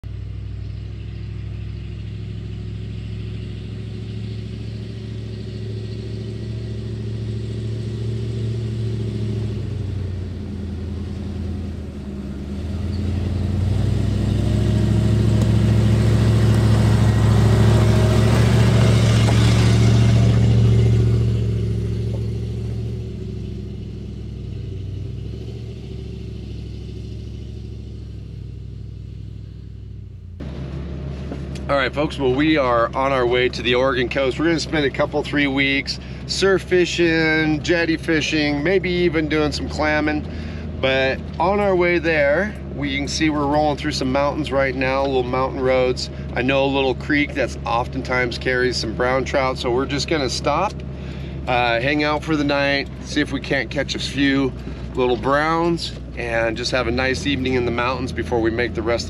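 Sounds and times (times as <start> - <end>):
tyre noise on dirt road: 0.0 - 59.0
van engine running: 0.0 - 59.0.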